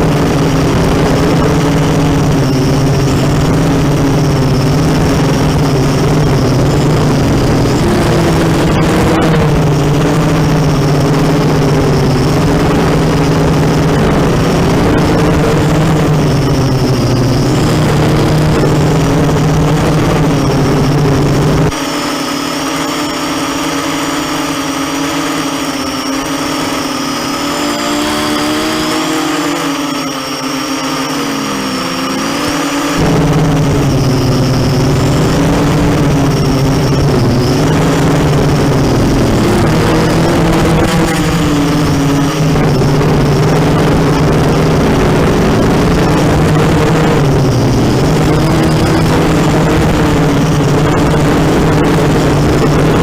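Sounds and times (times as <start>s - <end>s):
drone motors and propellers whining: 0.0s - 53.0s.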